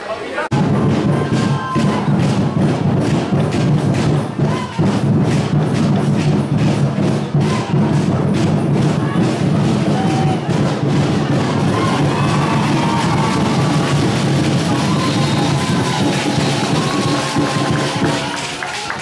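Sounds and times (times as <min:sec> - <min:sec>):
loud music with heavy drumbeat: 0:00.5 - 0:18.4.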